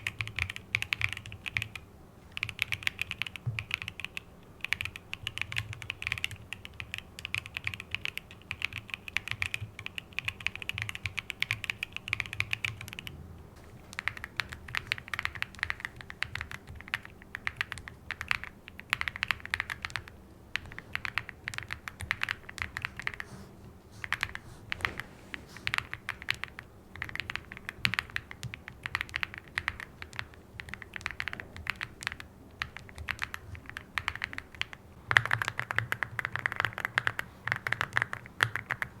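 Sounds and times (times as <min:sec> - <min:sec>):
mechanical keyboard typing: 0:00.0 - 0:13.1, 0:13.9 - 0:23.2, 0:25.7 - 0:39.0.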